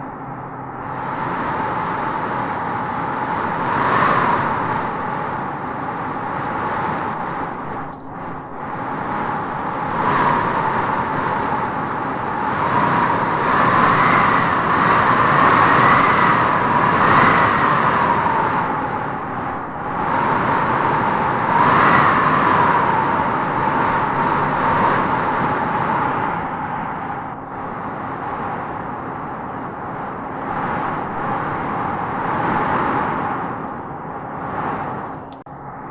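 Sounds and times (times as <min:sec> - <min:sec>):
wind howling in gusts: 0:00.0 - 0:35.9.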